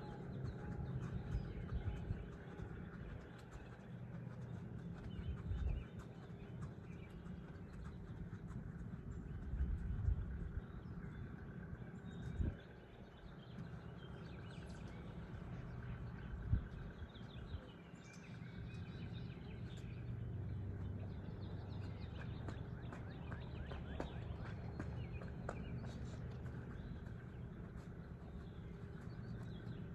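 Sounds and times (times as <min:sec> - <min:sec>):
small birds chirping: 0:00.0 - 0:29.9
steady low rumble: 0:00.0 - 0:29.9.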